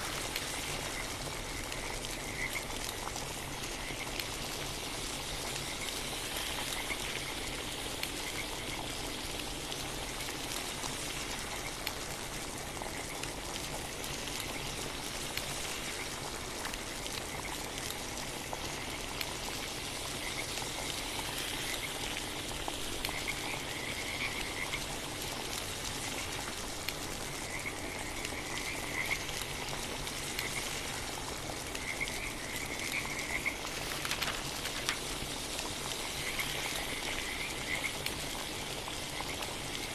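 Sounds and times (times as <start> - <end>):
frogs trilling: 0.0 - 9.2, 10.0 - 26.6, 27.2 - 39.9
rain hissing: 0.0 - 39.9.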